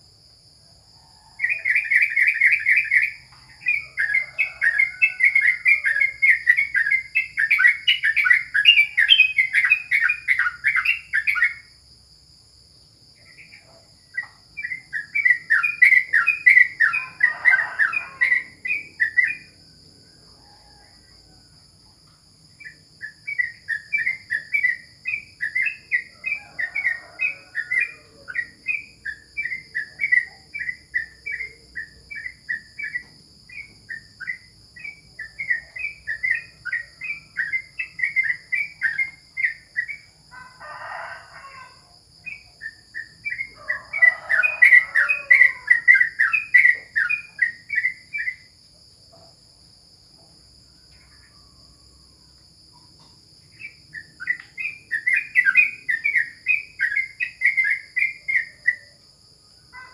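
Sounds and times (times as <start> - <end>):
crickets shrilling: 0.0 - 59.9.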